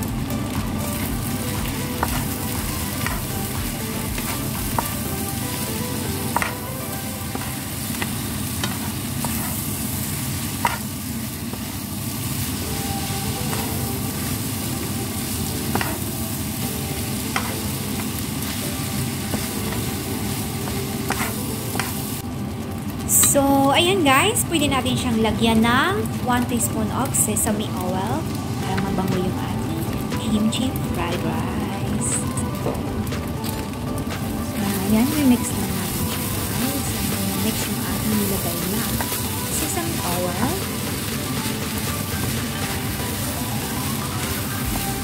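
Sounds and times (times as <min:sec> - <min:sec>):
fried rice sizzling in a pan: 0:00.0 - 0:45.0.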